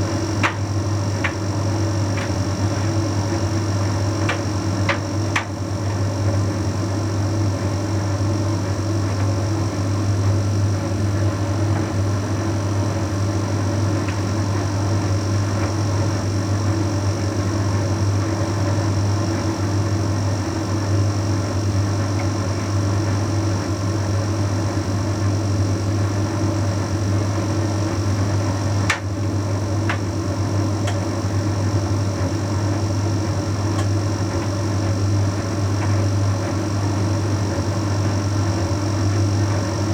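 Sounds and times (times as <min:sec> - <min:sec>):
tumble dryer humming: 0:00.0 - 0:39.9.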